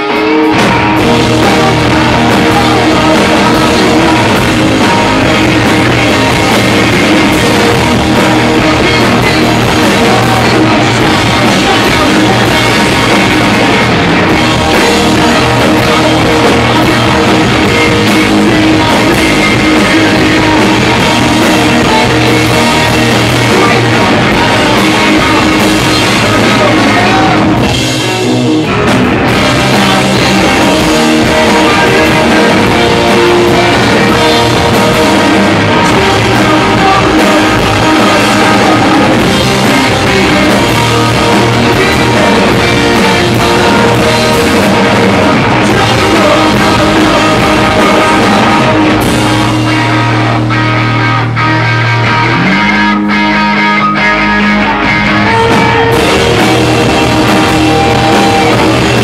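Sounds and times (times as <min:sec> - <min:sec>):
lead vocal singing: 0:00.0 - 0:50.6, 0:54.5 - 0:59.0
rock band playing live: 0:00.0 - 0:59.0.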